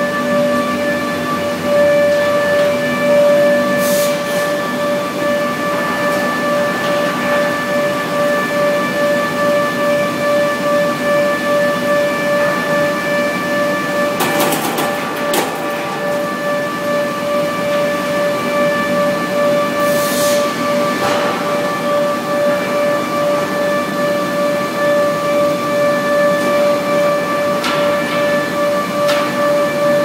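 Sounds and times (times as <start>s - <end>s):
planing machine whine: 0.0s - 30.0s.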